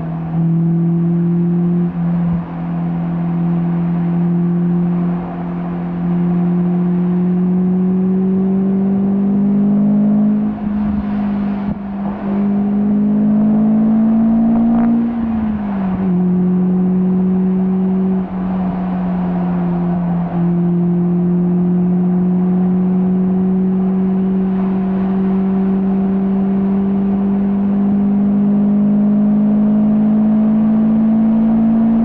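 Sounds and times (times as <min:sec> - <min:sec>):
sports car engine revving: 0:00.0 - 0:32.0.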